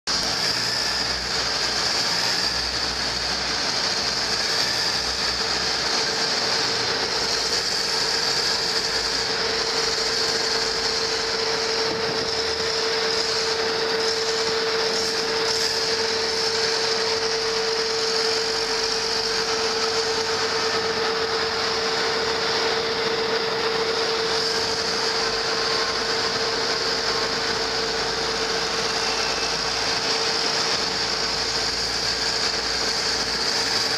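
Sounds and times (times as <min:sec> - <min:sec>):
heavy machinery humming: 0:00.1 - 0:33.9.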